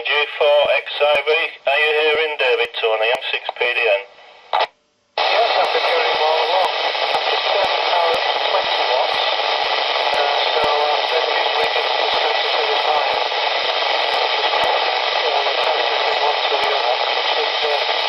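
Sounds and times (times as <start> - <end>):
faint voice on radio: 0.0 - 18.0
radio static hiss: 0.0 - 18.0.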